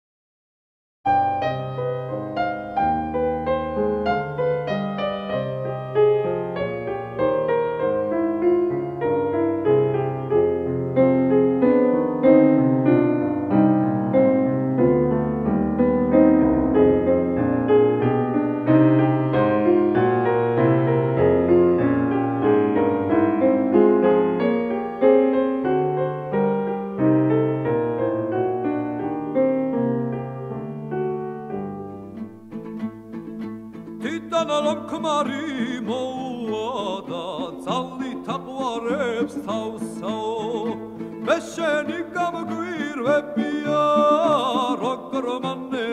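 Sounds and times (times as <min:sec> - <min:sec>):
piano music: 0:01.1 - 0:45.9.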